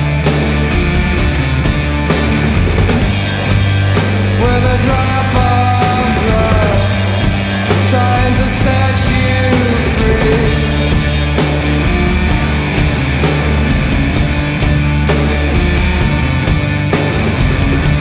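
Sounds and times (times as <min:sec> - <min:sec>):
loud rock music: 0:00.0 - 0:18.0.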